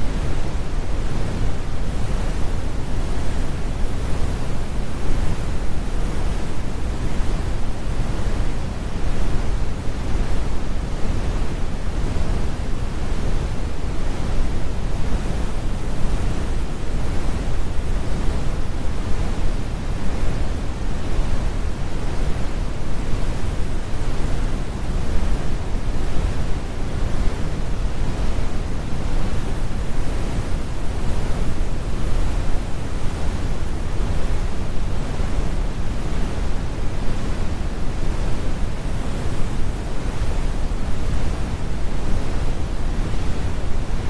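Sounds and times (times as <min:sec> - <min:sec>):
brown noise hiss: 0:00.0 - 0:44.0.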